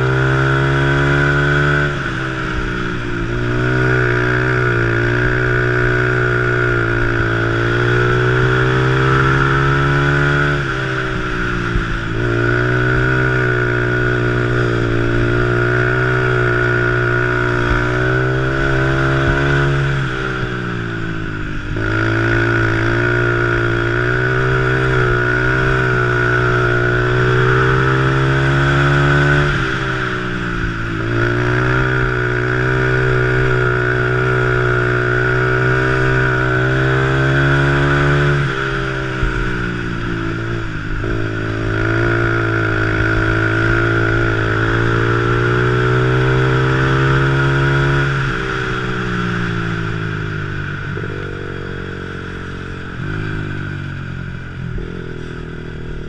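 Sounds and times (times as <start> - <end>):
three-wheeler engine revving: 0.0 - 56.0.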